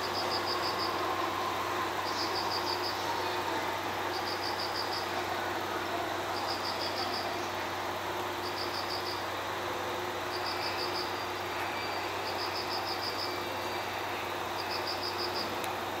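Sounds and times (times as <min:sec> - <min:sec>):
insect chirping in trills: 0:00.0 - 0:15.7
steady low hum: 0:00.0 - 0:16.0.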